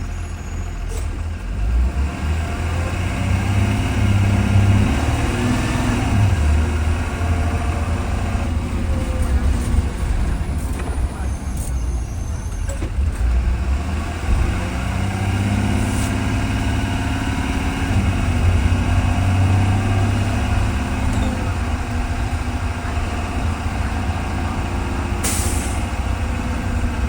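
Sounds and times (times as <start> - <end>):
bus engine running inside bus: 0.0 - 27.0.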